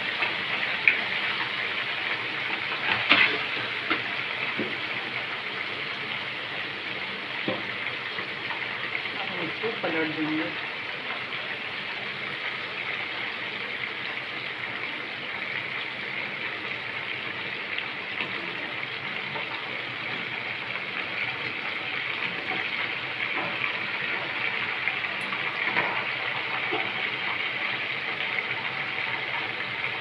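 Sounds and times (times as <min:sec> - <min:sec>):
chicken deep-frying in oil: 0:00.0 - 0:30.0.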